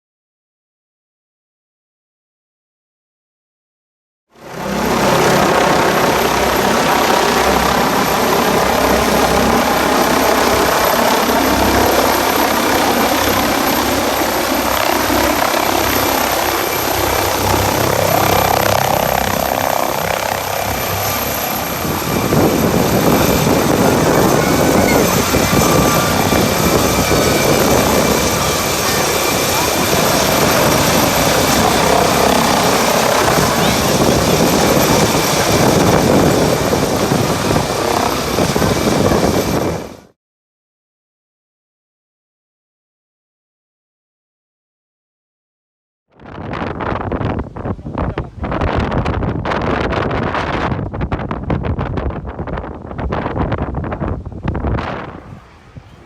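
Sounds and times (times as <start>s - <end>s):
helicopter rotor beating: 4.4s - 40.1s, 46.2s - 56.0s
wind buffeting microphone: 4.5s - 40.0s, 46.2s - 56.0s.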